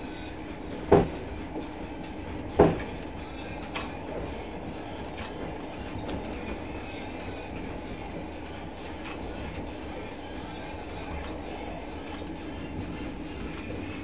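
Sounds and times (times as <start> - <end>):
train wheels rumbling on track: 0.0 - 14.0
wheels clacking over rail joints: 0.6 - 12.9.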